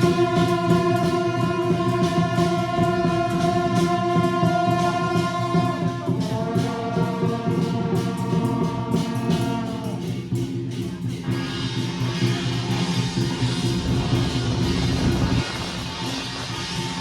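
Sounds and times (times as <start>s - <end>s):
percussion crashes: 0.0s - 17.0s.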